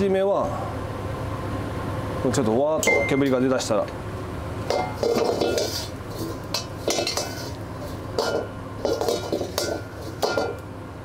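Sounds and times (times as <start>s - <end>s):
gas burner hum: 0.0s - 11.0s.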